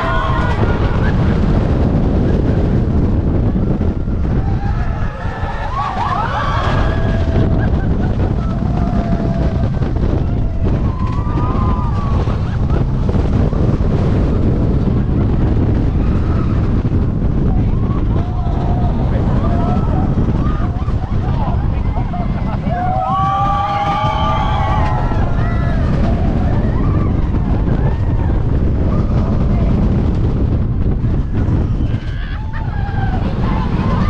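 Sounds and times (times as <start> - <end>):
faint voices: 0.0 - 34.0
wind buffeting microphone: 0.0 - 34.0.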